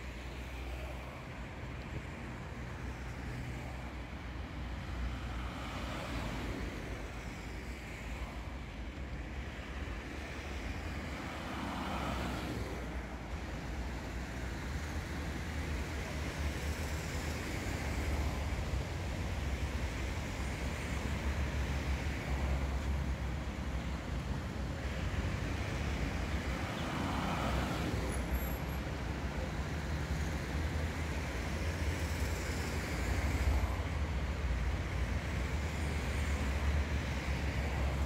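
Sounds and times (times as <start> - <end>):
traffic rumble of engines and tyres: 0.0 - 38.0.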